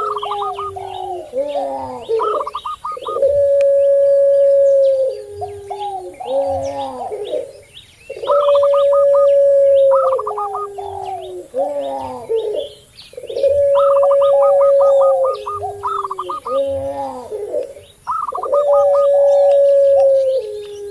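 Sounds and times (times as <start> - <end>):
faint small birds chirping: 0.0 - 20.9
long held dove coo: 0.0 - 20.9
rippling dove coos: 0.0 - 20.9.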